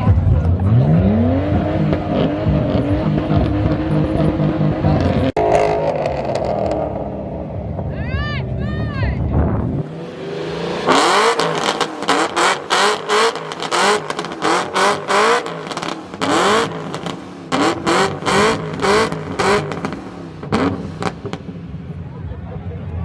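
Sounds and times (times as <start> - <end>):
car engine revving in blips: 0.0 - 7.9, 9.3 - 21.9.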